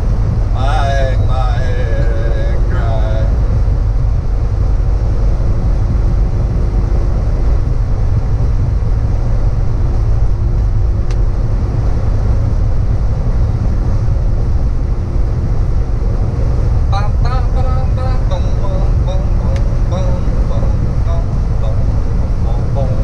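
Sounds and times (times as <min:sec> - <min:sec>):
faint steady hum: 0:00.0 - 0:23.0
heavy vehicle rumbling: 0:00.0 - 0:23.0.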